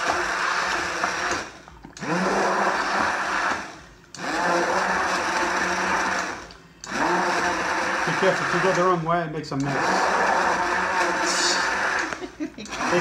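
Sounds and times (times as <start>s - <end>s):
hand blender whining: 0.0s - 9.0s, 9.6s - 13.0s.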